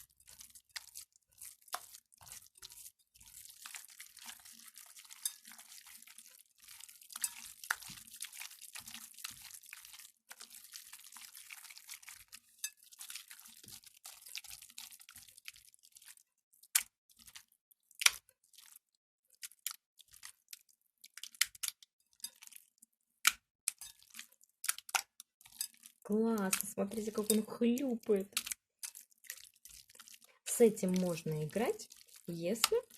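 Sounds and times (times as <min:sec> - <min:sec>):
slime squelching by hand: 0:00.0 - 0:32.9.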